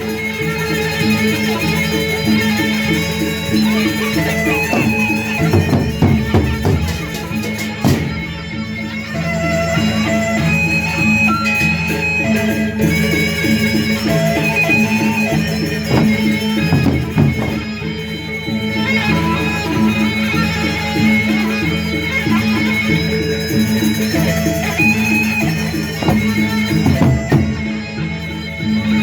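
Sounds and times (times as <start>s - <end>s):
percussion ensemble music: 0.0s - 29.0s.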